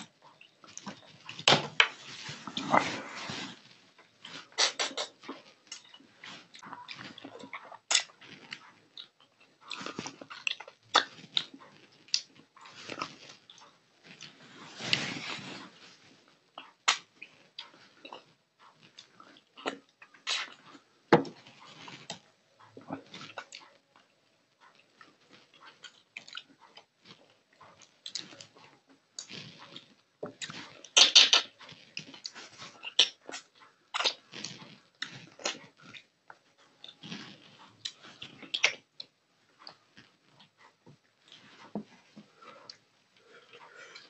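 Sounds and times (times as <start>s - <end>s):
eating fish by hand: 0.0s - 44.0s.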